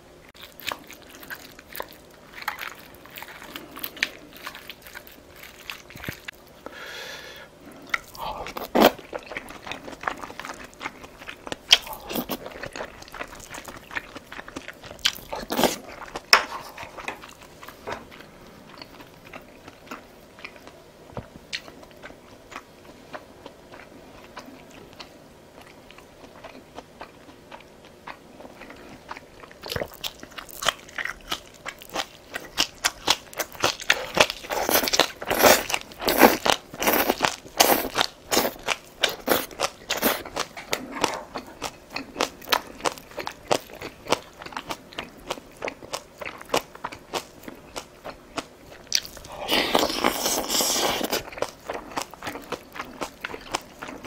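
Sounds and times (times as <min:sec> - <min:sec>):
person crunching and chewing: 0:00.4 - 0:06.9, 0:07.6 - 0:20.8, 0:21.5 - 0:54.0.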